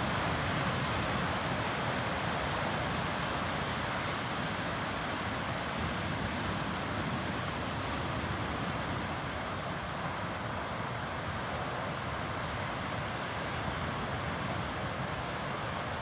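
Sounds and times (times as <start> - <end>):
ocean surf breaking on beach: 0.0 - 16.0.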